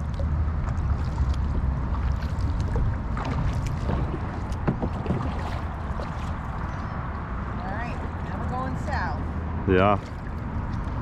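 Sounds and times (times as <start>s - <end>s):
paddle splashes and drips: 0.0s - 8.5s, 9.8s - 11.0s
steady low rumble: 0.0s - 11.0s.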